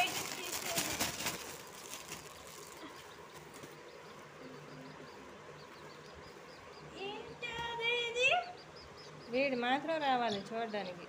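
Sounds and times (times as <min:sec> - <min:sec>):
chick peeping: 0:00.0 - 0:11.0.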